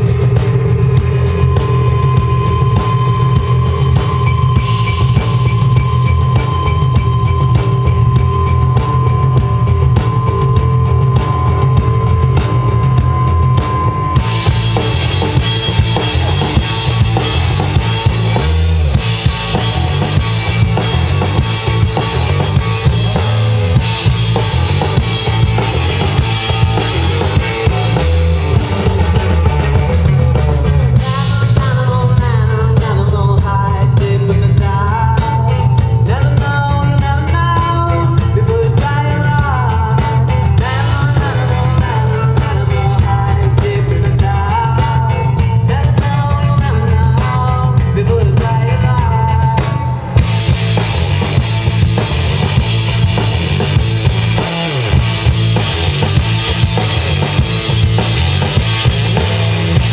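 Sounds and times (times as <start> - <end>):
drum beat: 0.0 - 59.9
heavy bass: 0.0 - 59.9
live band playing: 0.0 - 59.9.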